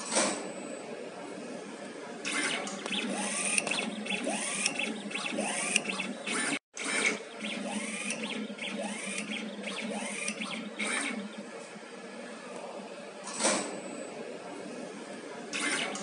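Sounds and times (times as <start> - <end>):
workshop machinery whirring: 0.0 - 16.0.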